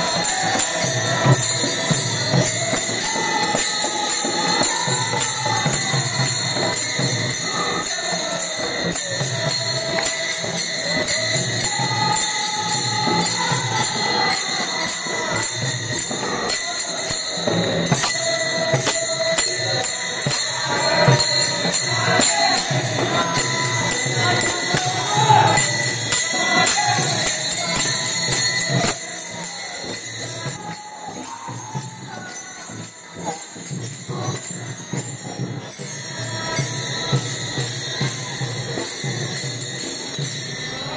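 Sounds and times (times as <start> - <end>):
men singing together: 0.0 - 40.1
hand cymbals clashing: 0.0 - 40.9.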